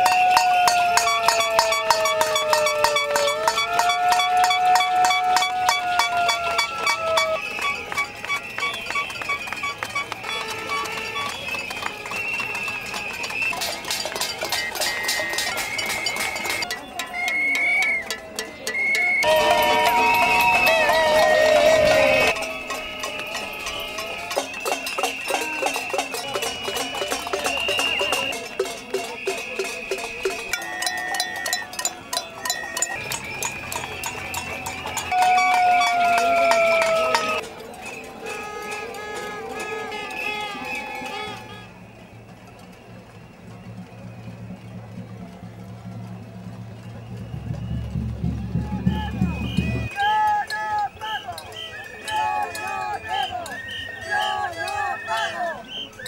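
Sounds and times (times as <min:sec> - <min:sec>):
shrill whistle: 0:00.0 - 0:38.8, 0:39.9 - 0:44.8, 0:45.8 - 0:56.0.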